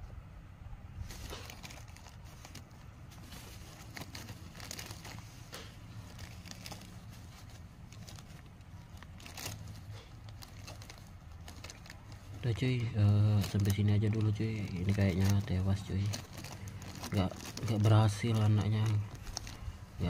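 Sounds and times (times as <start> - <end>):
low steady hum: 0.0 - 20.0
tissue paper rustling: 1.0 - 20.0.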